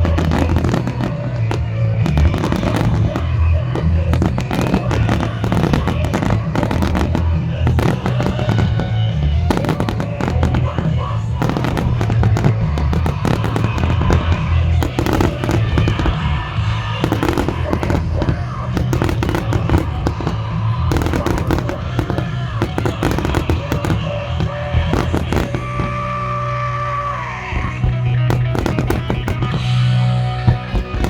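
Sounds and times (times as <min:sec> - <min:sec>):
firework bursts and crackles: 0:00.0 - 0:31.0
loud music soundtrack: 0:00.0 - 0:31.0.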